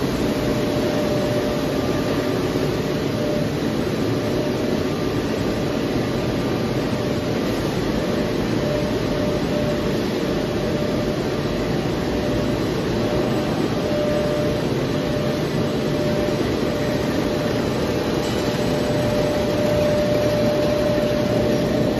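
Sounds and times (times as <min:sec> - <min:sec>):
production line machinery humming: 0:00.0 - 0:21.9.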